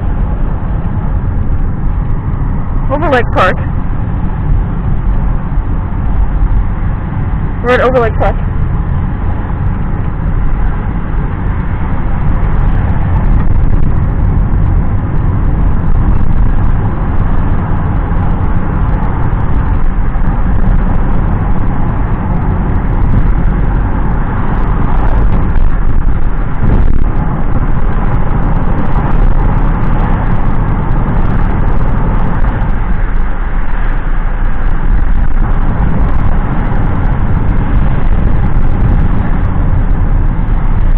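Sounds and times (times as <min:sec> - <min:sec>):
car road noise from inside: 0:00.0 - 0:40.9.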